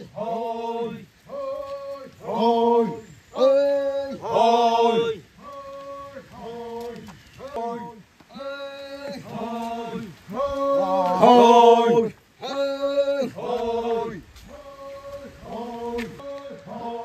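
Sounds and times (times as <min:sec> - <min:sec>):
voices chanting a song: 0:00.0 - 0:17.0.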